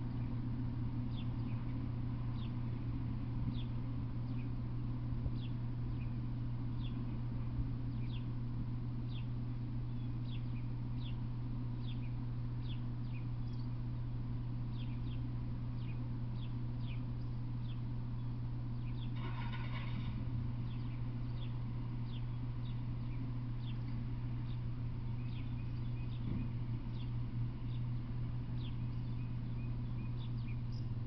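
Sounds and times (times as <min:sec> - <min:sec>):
steady low hum: 0:00.0 - 0:31.0
bird chirping: 0:01.1 - 0:02.8, 0:03.5 - 0:04.6, 0:05.3 - 0:07.2, 0:07.9 - 0:08.3, 0:09.0 - 0:11.2, 0:11.8 - 0:13.8, 0:14.7 - 0:20.0, 0:20.6 - 0:31.0.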